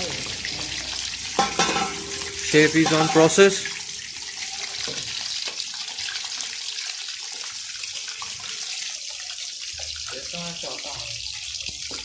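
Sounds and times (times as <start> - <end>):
chicken deep frying in oil: 0.0 - 12.0.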